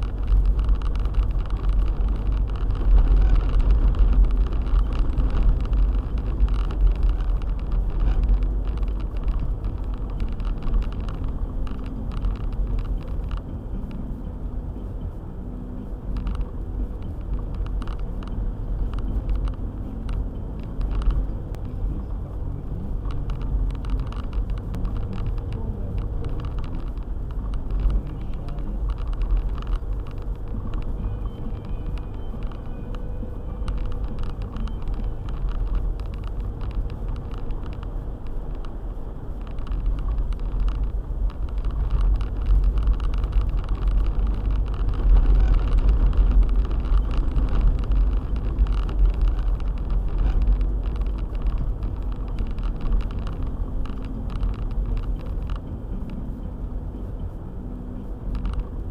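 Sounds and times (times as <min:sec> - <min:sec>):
car engine and tyres on snow: 0:00.0 - 0:58.9.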